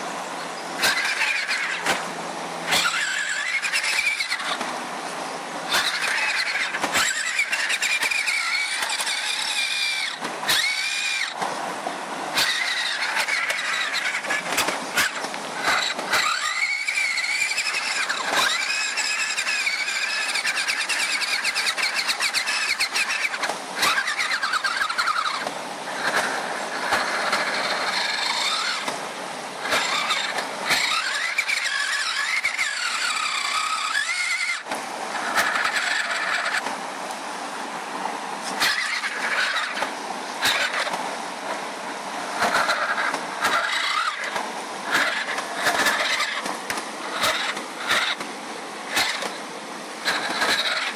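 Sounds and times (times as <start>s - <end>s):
electric motor whining: 0.0s - 36.8s, 38.4s - 41.6s, 42.3s - 48.3s, 48.9s - 49.4s, 50.0s - 50.9s.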